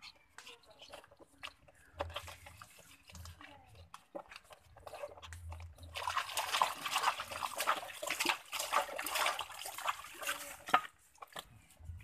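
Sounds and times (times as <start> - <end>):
water splashing in a plastic tub: 0.0 - 12.0.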